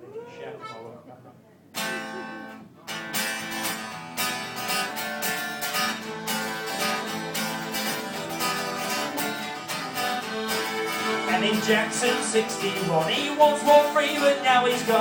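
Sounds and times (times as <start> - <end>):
acoustic band playing: 1.8 - 15.0
strummed acoustic guitar: 1.8 - 15.0.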